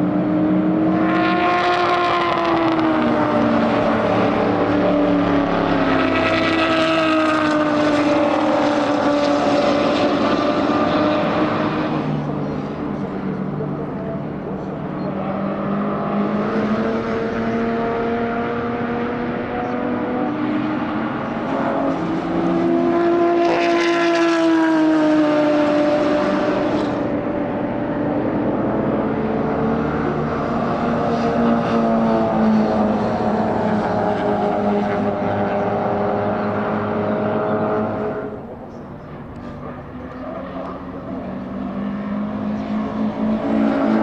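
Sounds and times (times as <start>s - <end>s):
racing car engines passing: 0.0s - 44.0s.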